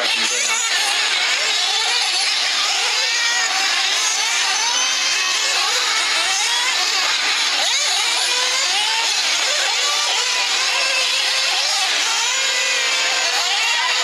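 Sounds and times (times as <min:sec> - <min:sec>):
rc car motors whining: 0:00.0 - 0:14.0.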